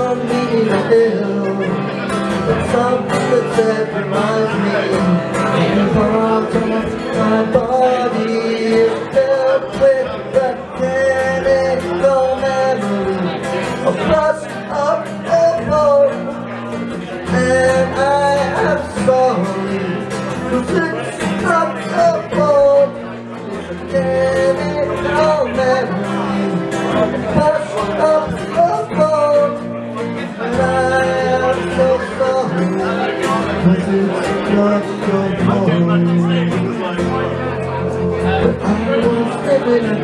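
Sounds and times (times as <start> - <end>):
man singing: 0.0 - 40.0
strummed acoustic guitar: 0.0 - 40.0.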